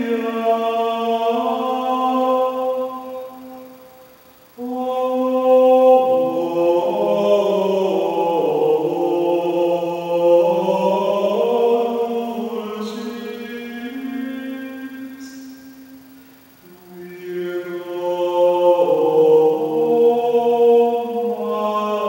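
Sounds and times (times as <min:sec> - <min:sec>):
man singing chant with reverb: 0:00.0 - 0:22.0.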